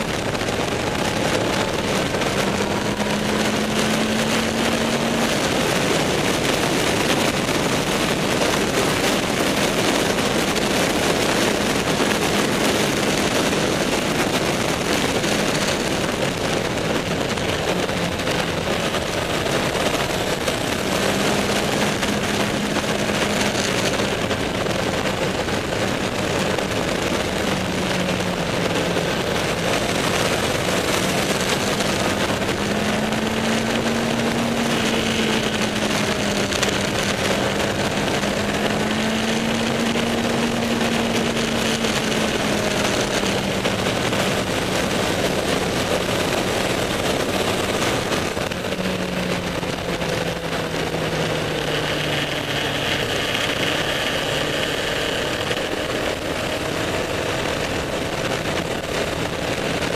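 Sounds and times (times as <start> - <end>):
motorcycle engine cruising: 0.0 - 59.9
wind noise: 0.0 - 59.9.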